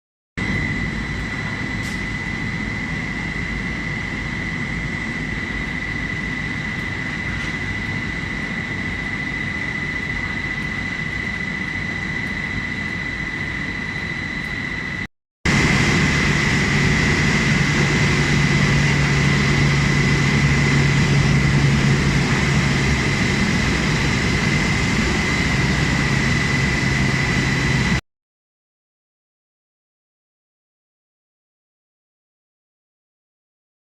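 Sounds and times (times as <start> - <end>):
furnace mechanical noise: 0.4 - 28.0
high whine: 0.4 - 28.0
low hum: 0.4 - 28.0.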